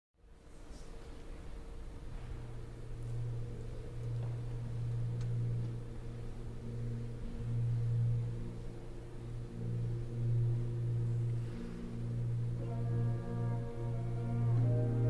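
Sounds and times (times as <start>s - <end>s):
low brass sustained note: 2.5s - 15.0s.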